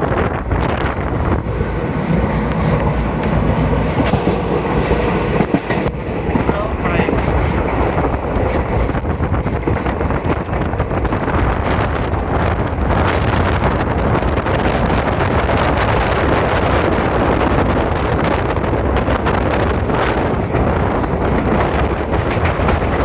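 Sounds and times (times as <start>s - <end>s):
train rumbling at speed: 0.0s - 23.0s
wind on microphone: 0.0s - 23.0s.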